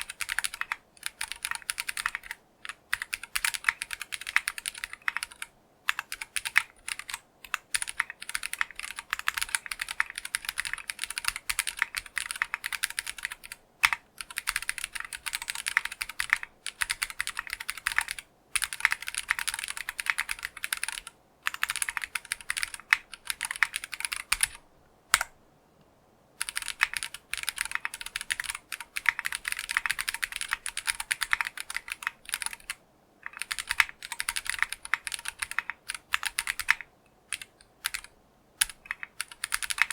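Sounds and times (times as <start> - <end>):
fast typing on mechanical keyboard: 0.0 - 24.6, 26.4 - 39.9.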